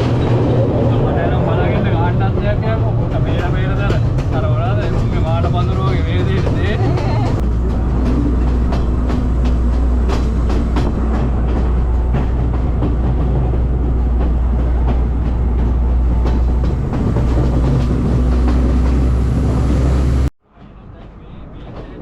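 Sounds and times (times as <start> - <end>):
train wheels rumbling on rails: 0.0 - 22.0
wheels clicking over rail joints: 1.7 - 19.6.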